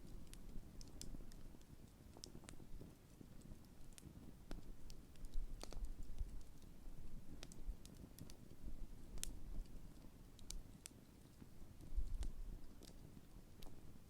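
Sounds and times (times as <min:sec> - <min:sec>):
low rumble of flames: 0:00.0 - 0:10.6, 0:11.4 - 0:14.0
wood crackling and popping: 0:00.0 - 0:14.0.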